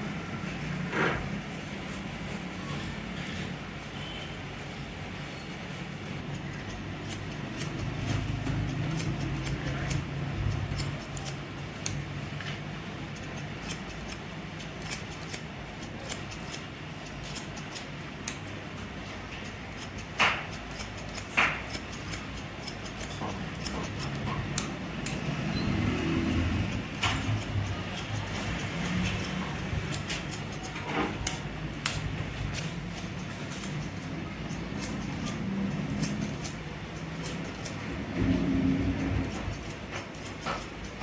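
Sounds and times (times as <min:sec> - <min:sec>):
scissors snipping hair: 0:00.6 - 0:02.8, 0:06.3 - 0:12.2, 0:13.1 - 0:18.7, 0:19.3 - 0:41.0.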